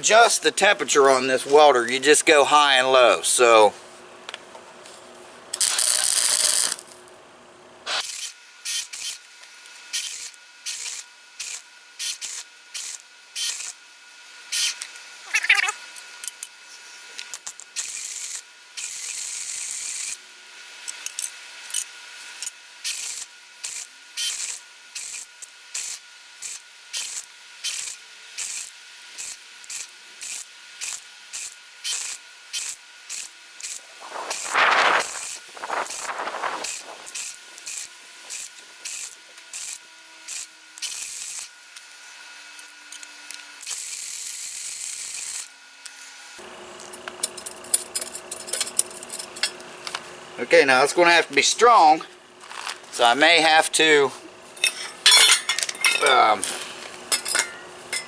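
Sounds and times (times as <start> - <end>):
arc welder crackling: 0.0 - 7.2, 7.8 - 58.0.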